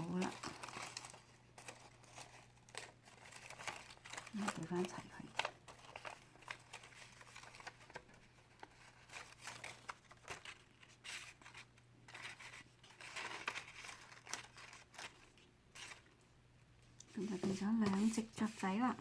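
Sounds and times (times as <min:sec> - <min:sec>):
paper rustling and crinkling: 0:00.0 - 0:16.2, 0:17.1 - 0:19.0.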